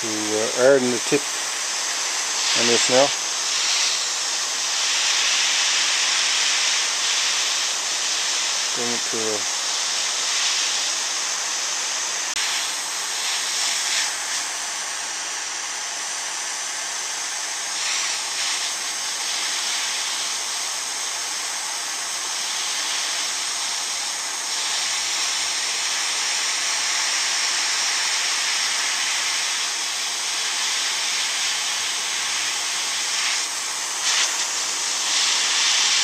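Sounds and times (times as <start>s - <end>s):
gas torch flame hissing: 0.0s - 36.0s.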